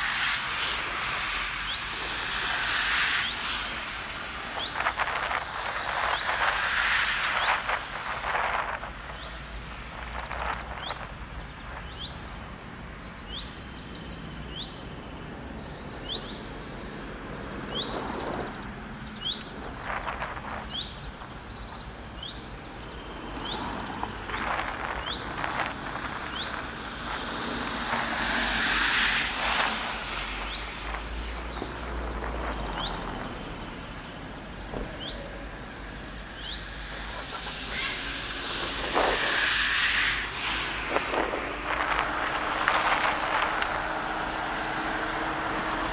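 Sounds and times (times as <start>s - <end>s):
cars passing: 0.0s - 13.4s, 15.8s - 45.9s
road traffic: 0.0s - 45.9s
small birds chirping: 0.0s - 45.9s.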